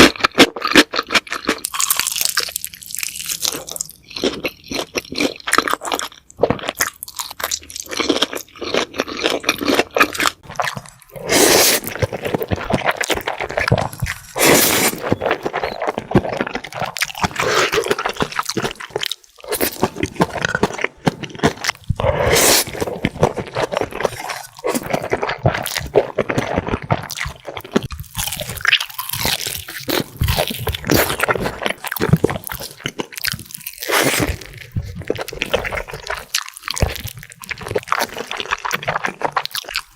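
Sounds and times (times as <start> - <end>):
person crunching fried chicken: 0.0 - 39.9.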